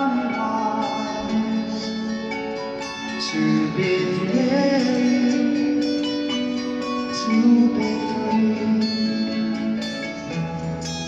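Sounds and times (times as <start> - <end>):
live band slow ballad: 0.0 - 11.0.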